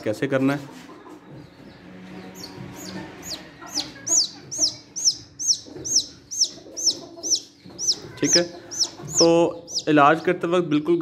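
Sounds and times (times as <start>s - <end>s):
baby chick peeping: 0.0s - 11.0s.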